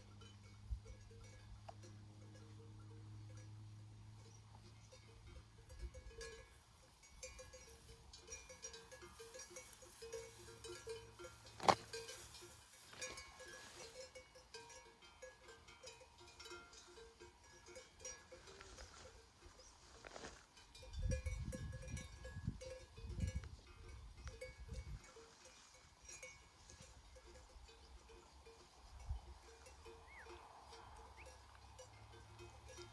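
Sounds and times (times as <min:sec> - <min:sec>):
sheep bells clanking: 0:00.0 - 0:32.9.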